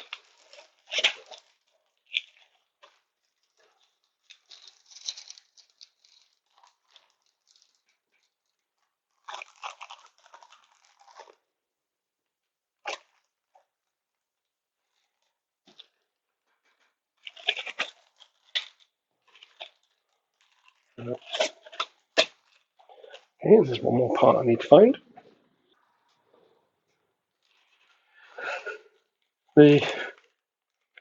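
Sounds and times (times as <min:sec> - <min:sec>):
plastic packaging rustling: 0:00.0 - 0:11.4, 0:14.8 - 0:31.0.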